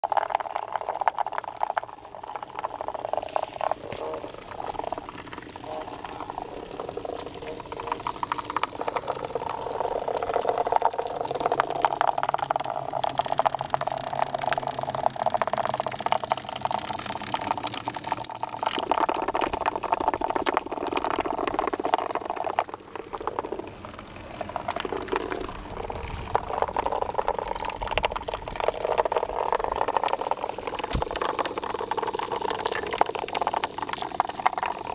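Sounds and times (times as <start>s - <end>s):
robot bugs buzzing and rattling: 0.1s - 23.6s, 24.6s - 34.9s.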